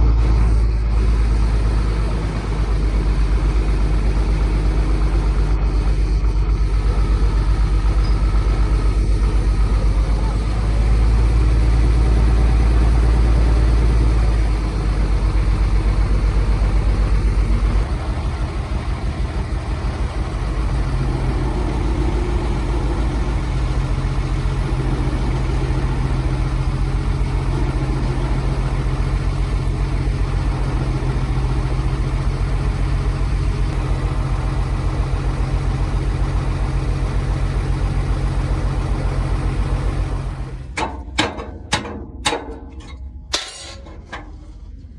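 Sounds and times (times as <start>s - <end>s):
diesel truck engine idling: 0.0s - 41.8s.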